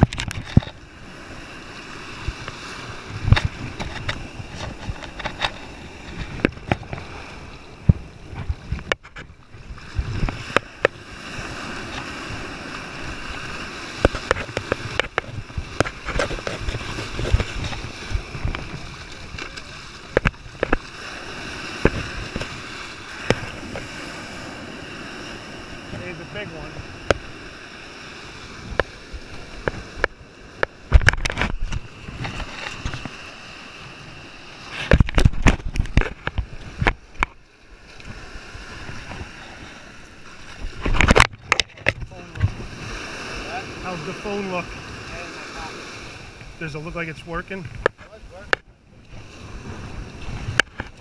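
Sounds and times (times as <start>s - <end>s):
shallow surf splashing: 0.0s - 51.0s.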